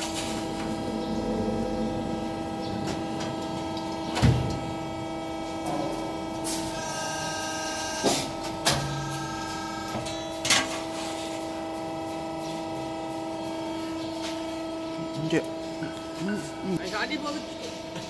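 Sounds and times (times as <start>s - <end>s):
hydraulic press humming: 0.0s - 18.0s.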